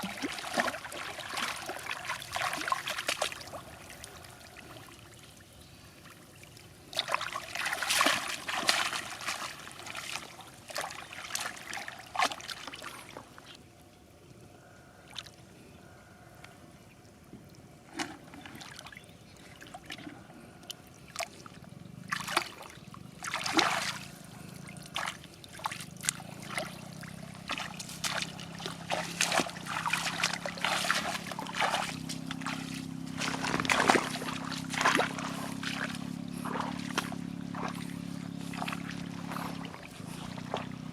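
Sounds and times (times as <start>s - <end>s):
water splashing and trickling: 0.0s - 13.8s, 17.1s - 40.9s
low steady hum: 0.0s - 40.9s.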